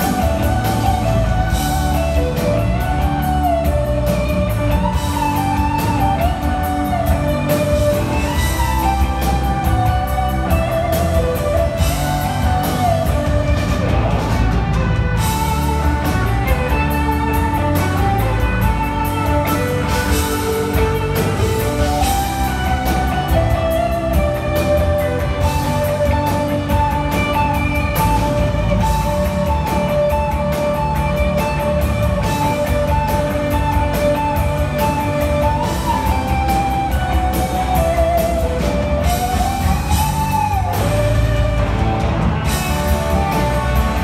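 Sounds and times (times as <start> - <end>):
electric guitar lead bends: 0.0 - 44.0
live rock band playing: 0.0 - 44.0.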